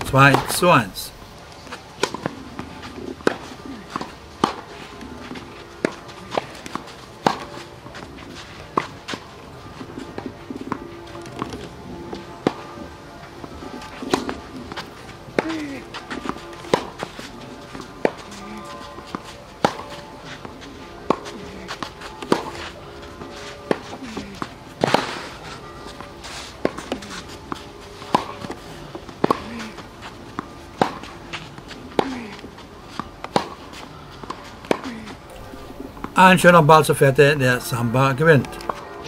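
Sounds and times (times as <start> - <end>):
tennis ball struck by rackets: 0.0 - 0.9, 1.6 - 8.0, 10.0 - 12.7, 13.7 - 22.7, 23.3 - 25.4, 26.3 - 29.8, 30.4 - 37.0.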